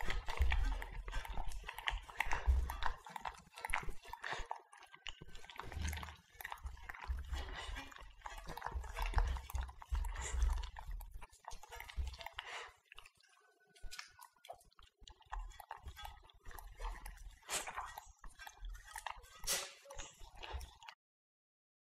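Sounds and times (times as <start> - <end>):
dogs licking metal bowls: 0.0 - 21.0.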